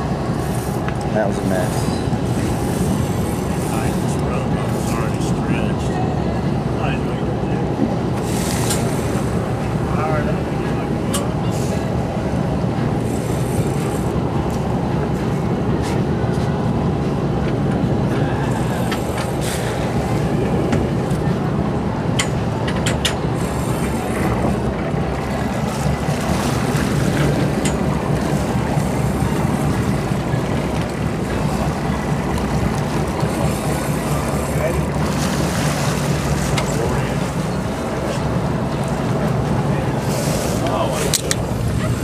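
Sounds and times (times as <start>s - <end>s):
boat engines rumbling: 0.0s - 42.0s.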